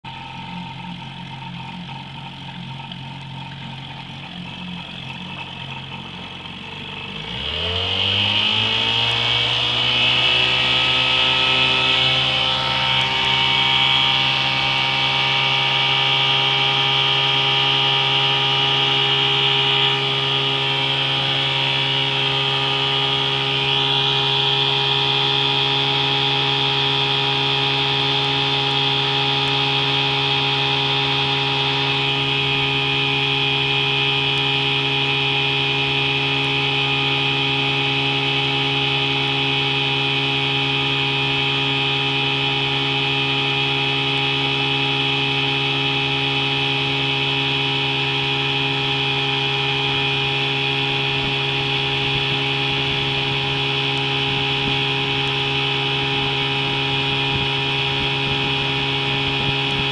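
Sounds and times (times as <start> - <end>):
outboard motor revving: 0.0 - 59.9.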